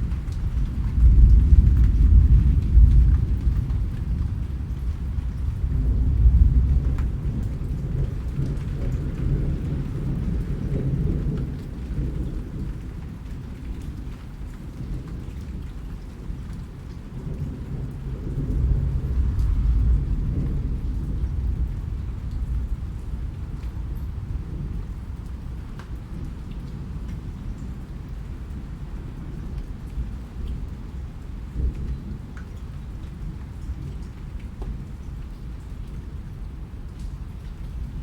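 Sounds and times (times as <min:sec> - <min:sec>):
low rolling thunder: 0:00.0 - 0:38.0
raindrop ticks: 0:00.0 - 0:38.0
steady rain: 0:00.0 - 0:38.0.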